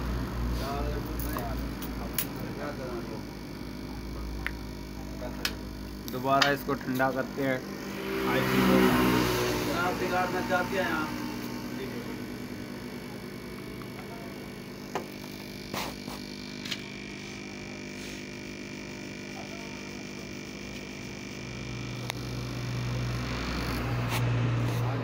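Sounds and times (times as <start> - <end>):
electrical hum: 0.0 - 25.0
low motor drone: 0.0 - 25.0.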